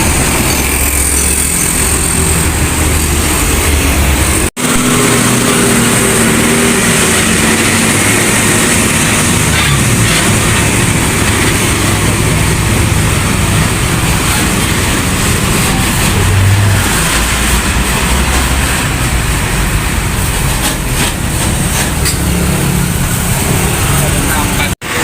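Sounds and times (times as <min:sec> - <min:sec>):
heavy diesel traffic rumble: 0:00.0 - 0:25.0
tyre and road noise: 0:00.0 - 0:25.0.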